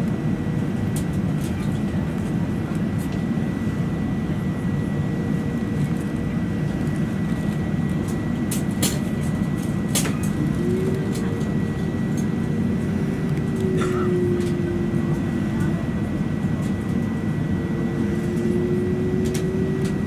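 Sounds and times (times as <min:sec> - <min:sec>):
airplane cabin roar: 0:00.0 - 0:20.0
steady hum: 0:00.0 - 0:20.0.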